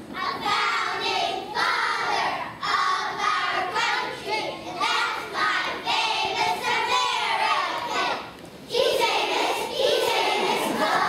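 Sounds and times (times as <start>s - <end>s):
children's choir singing: 0.2s - 11.0s.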